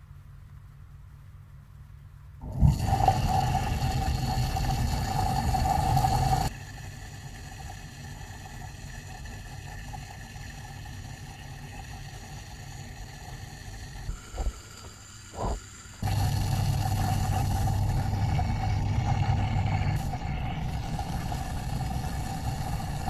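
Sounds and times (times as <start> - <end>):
submersible pump whining: 2.4 - 23.0.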